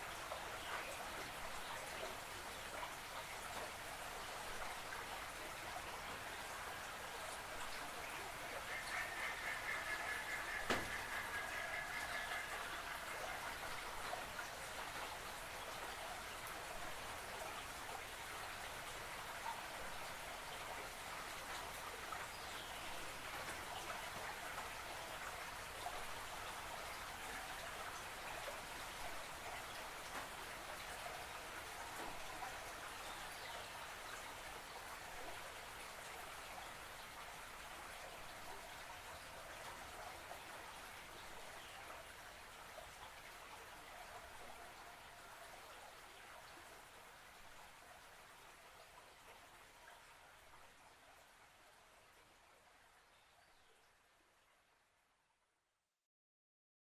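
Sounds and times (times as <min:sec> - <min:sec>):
creek water trickling: 0:00.0 - 0:55.0.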